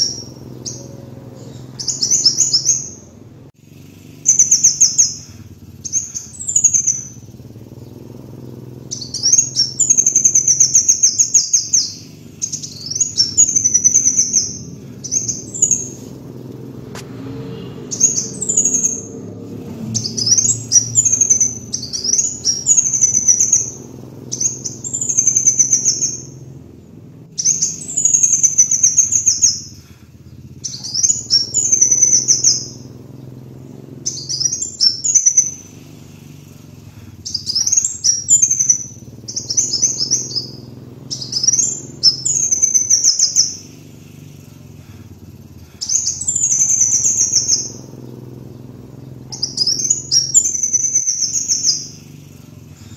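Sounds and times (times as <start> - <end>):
steady low hum: 0.0 - 52.9
sunbird twittering: 0.0 - 52.9.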